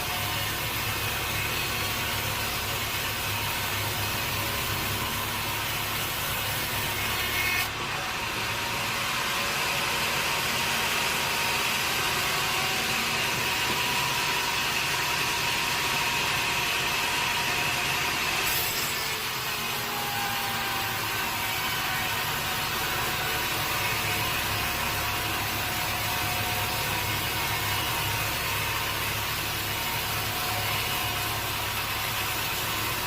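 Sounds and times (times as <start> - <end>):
high saw whine: 0.0 - 33.0
saw cutting wood: 0.0 - 33.0
sawmill machinery engine hum: 0.0 - 33.0.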